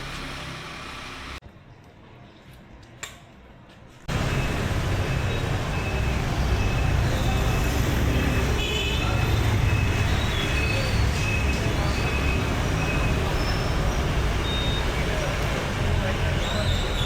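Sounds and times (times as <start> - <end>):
traffic rumble and road noise: 0.0 - 17.0.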